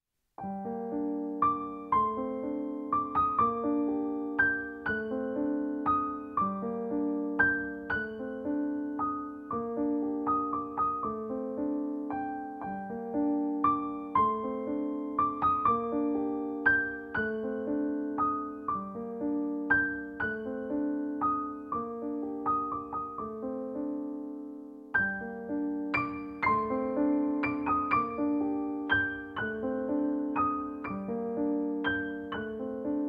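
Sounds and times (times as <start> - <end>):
gentle solo piano melody: 0.4 - 33.0.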